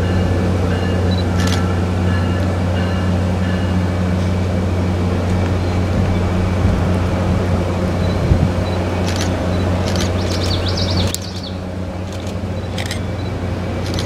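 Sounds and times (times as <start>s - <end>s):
diesel locomotive droning: 0.0s - 14.0s.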